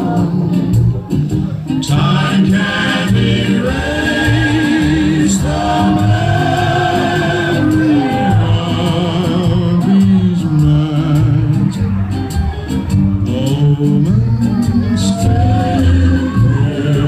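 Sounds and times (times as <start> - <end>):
low bass line: 0.0 - 17.0.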